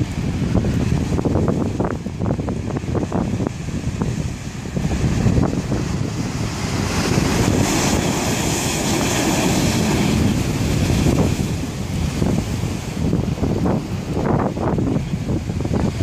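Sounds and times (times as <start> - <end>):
surf crashing against seawall: 0.0 - 16.0
wind buffeting microphone: 0.0 - 16.0.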